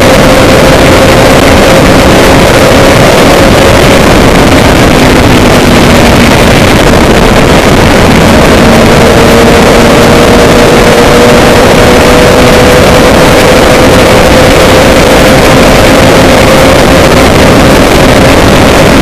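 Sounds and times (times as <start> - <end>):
low engine hum: 0.0 - 19.0
vehicle rushing noise: 0.0 - 19.0.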